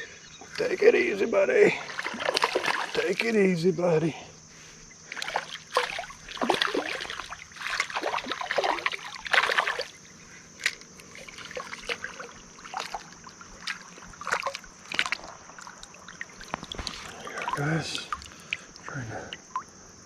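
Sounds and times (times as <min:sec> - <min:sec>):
fish thrashing and splashing water: 0:01.7 - 0:03.4, 0:05.0 - 0:19.7.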